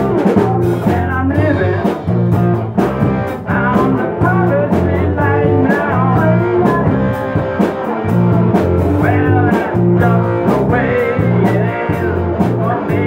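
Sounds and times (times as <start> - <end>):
bass guitar: 0.0 - 13.0
drums beating: 0.0 - 13.0
electric guitars: 0.0 - 13.0.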